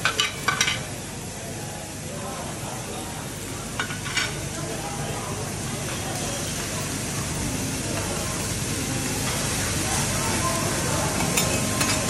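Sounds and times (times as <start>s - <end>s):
restaurant chatter: 0.0s - 12.0s
food sizzling on griddle: 0.1s - 12.0s.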